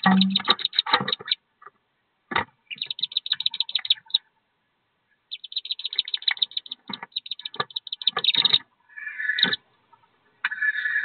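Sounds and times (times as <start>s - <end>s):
ducklings peeping: 0.0s - 1.4s, 2.3s - 4.5s, 5.1s - 11.0s.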